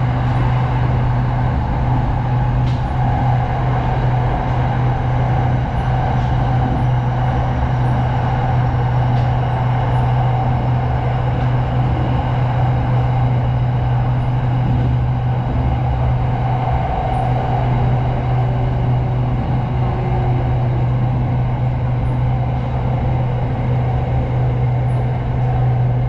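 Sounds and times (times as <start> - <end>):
train running: 0.0 - 26.0.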